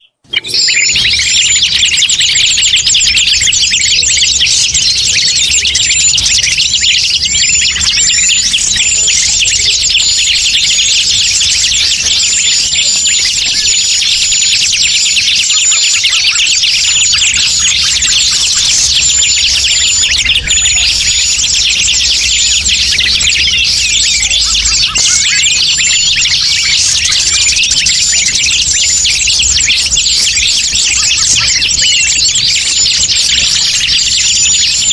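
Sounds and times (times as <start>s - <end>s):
small birds chirping and twittering: 0.0s - 34.9s.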